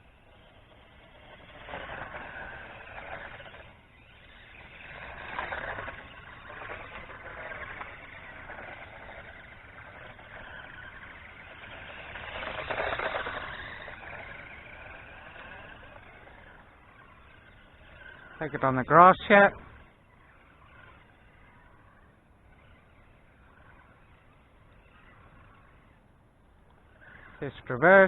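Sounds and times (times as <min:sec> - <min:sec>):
rc car motor whine: 0:00.0 - 0:28.0.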